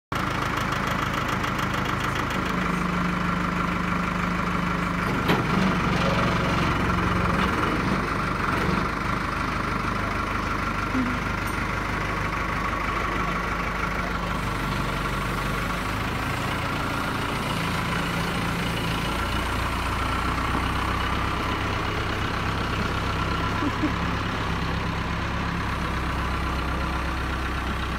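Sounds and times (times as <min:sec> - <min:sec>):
diesel tractor engine running: 0:00.1 - 0:27.9.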